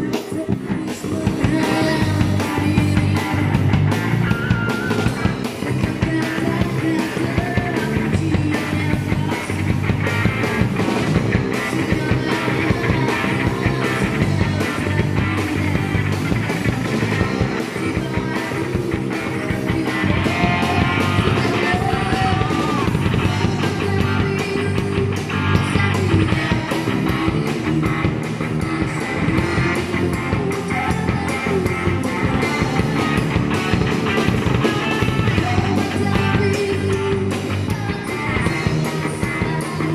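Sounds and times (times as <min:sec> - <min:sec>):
woman singing: 0:00.0 - 0:03.7, 0:05.3 - 0:10.0, 0:11.3 - 0:33.8, 0:34.7 - 0:39.9
drum kit: 0:00.0 - 0:39.9
electric guitar: 0:00.0 - 0:39.9.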